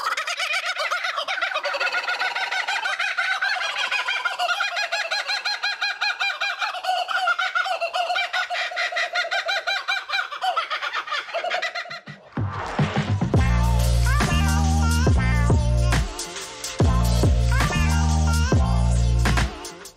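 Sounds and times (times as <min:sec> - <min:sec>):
kookaburras laughing: 0:00.0 - 0:12.3, 0:13.5 - 0:16.0, 0:16.9 - 0:19.2.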